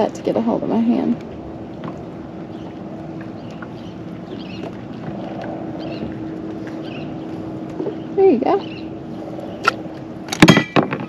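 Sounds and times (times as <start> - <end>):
boat motor hum: 0.0 - 11.0
light wind: 0.0 - 11.0.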